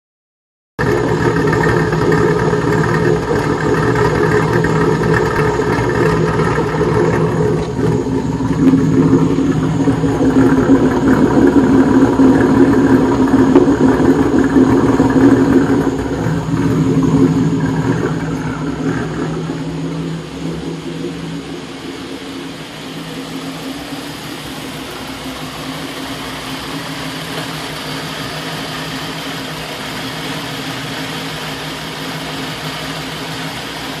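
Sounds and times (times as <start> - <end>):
vehicle engine idling roughly: 0.8 - 34.0.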